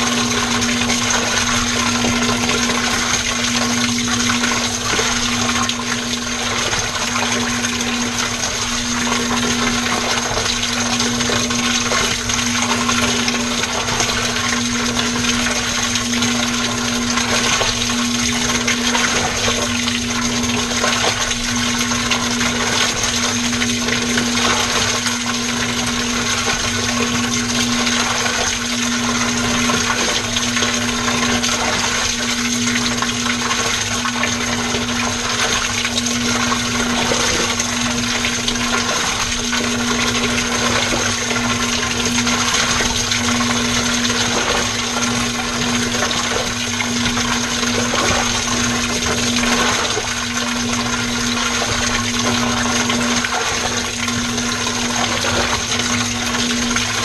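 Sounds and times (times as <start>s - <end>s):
motor hum: 0.0s - 57.0s
washing machine water churning: 0.0s - 57.0s.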